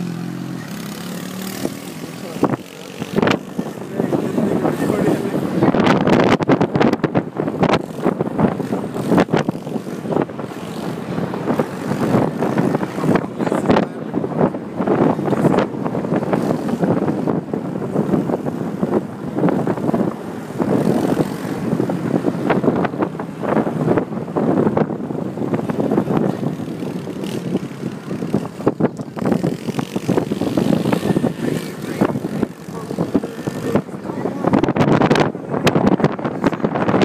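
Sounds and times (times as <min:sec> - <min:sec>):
car road and engine noise: 0:00.0 - 0:37.0
wind gusting over microphone: 0:00.0 - 0:37.0.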